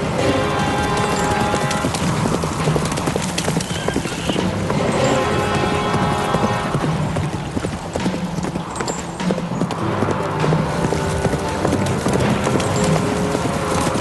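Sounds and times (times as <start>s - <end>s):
film music: 0.0s - 14.0s
horse hoofbeats on dry ground: 0.0s - 14.0s.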